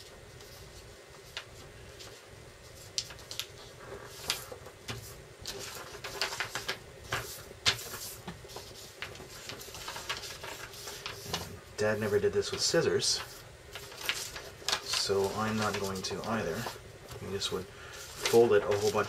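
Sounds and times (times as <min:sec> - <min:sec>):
paper crinkling and creasing: 0:00.0 - 0:19.0.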